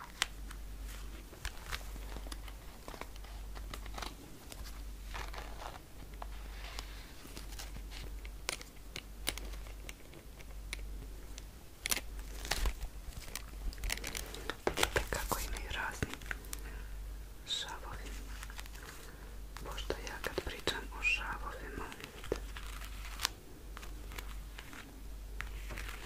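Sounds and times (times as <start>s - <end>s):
crinkling rustles: 0.0s - 16.8s, 17.8s - 26.0s.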